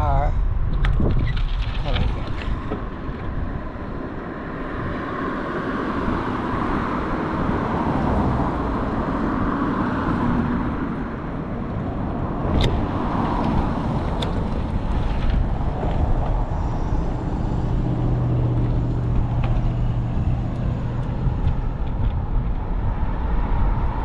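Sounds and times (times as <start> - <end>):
low traffic rumble: 0.0 - 24.0
cars passing: 1.8 - 24.0.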